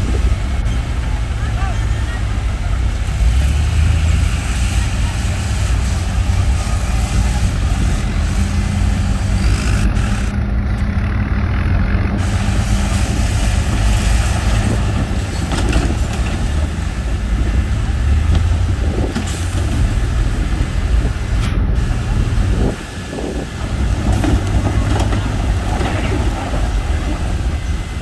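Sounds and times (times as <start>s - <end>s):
diesel machinery engine rumble: 0.0s - 28.0s.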